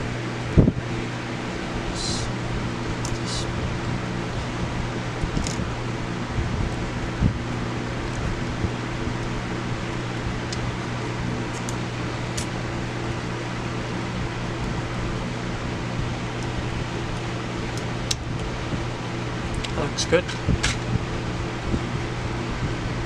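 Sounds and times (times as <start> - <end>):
fan-like room hum: 0.0 - 23.0.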